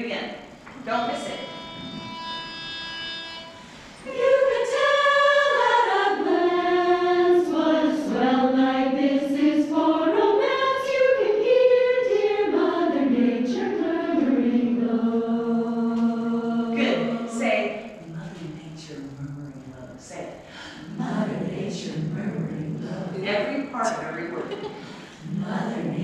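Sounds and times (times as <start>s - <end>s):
choir singing: 1.4s - 20.1s, 20.8s - 23.8s, 24.4s - 26.0s.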